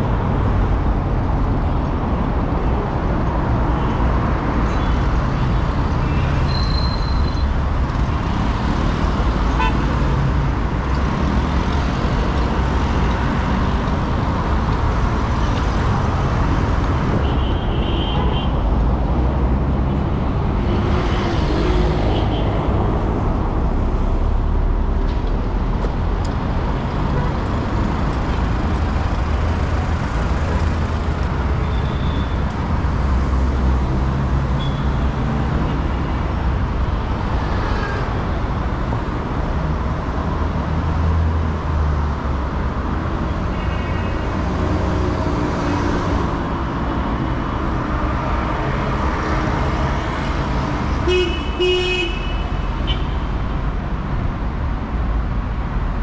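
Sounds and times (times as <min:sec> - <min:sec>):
street traffic passing: 0:00.0 - 0:56.0.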